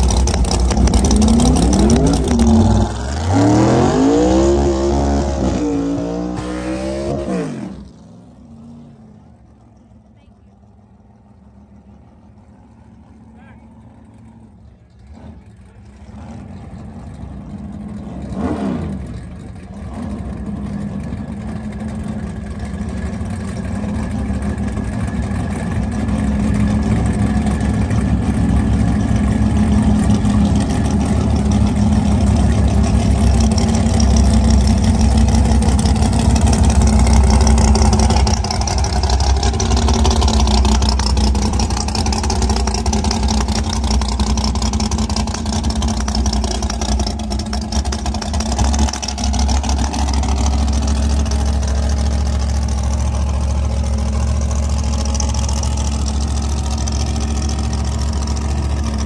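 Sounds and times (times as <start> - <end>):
race car engine rumbling: 0.0 - 59.0.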